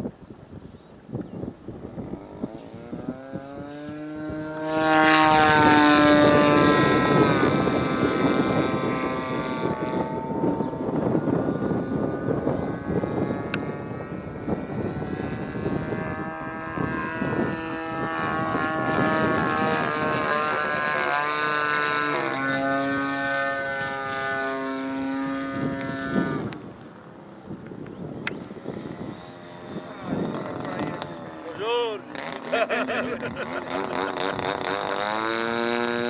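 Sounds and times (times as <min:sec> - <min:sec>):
model plane engine in flight: 0:00.0 - 0:36.0.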